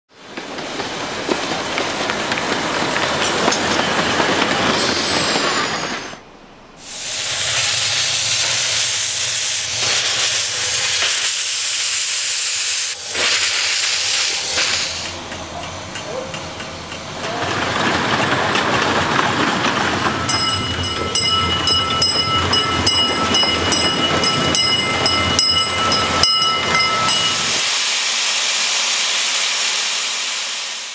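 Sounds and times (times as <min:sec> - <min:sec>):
steam hissing: 0:00.5 - 0:06.2, 0:06.8 - 0:30.9.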